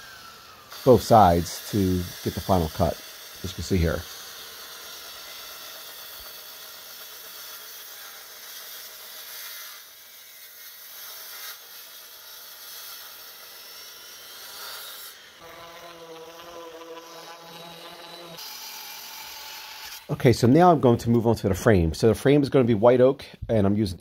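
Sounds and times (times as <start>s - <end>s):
circular saw cutting wood: 0.0s - 20.7s.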